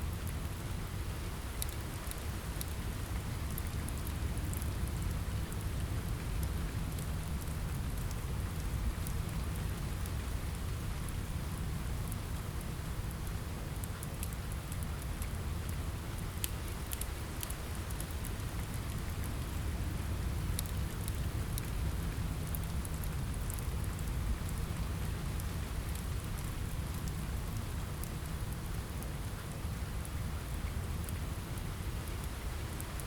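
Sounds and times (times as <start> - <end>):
rain on a window: 0.0 - 33.0.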